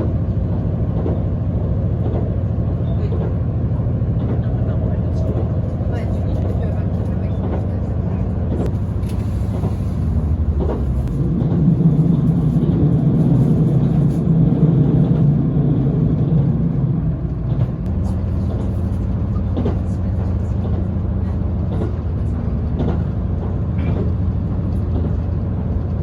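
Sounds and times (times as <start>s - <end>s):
train carriage running rumble: 0.0s - 26.0s.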